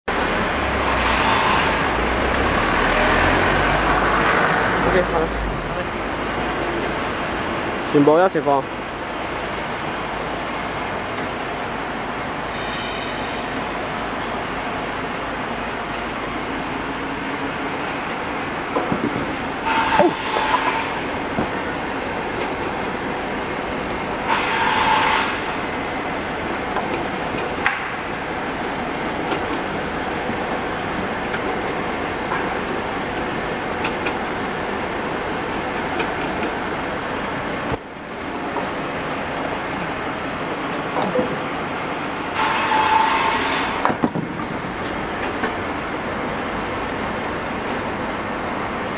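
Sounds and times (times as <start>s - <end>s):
packing machine whooshing hum: 0.1s - 48.9s.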